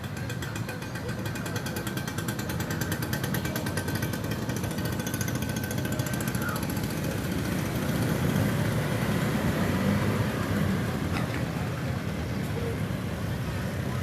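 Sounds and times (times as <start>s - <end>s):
engine rumble: 0.0s - 14.0s.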